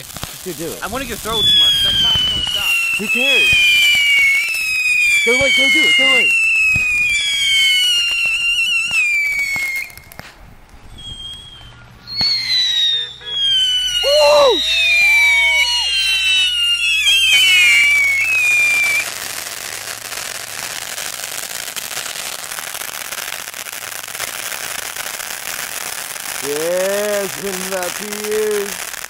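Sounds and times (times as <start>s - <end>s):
fireworks crackling: 0.0s - 29.0s
fireworks whistling: 0.0s - 29.0s.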